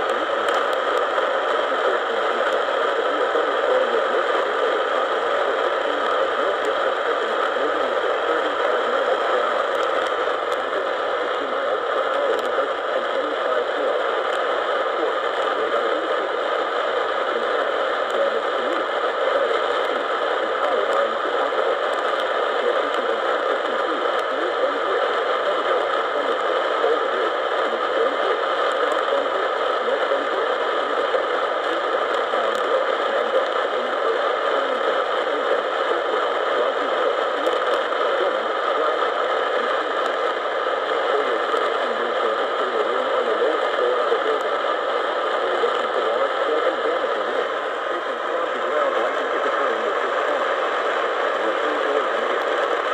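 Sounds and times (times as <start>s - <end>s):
radio static hiss: 0.0s - 52.9s.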